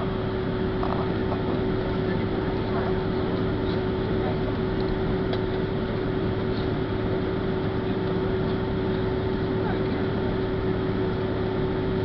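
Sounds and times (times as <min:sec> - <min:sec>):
jet engines heard from cabin: 0:00.0 - 0:12.0.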